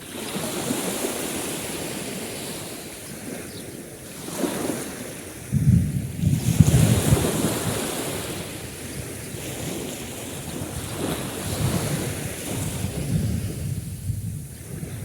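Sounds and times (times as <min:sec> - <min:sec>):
sea waves washing on shore: 0:00.0 - 0:15.0
wind buffeting microphone: 0:00.3 - 0:15.0.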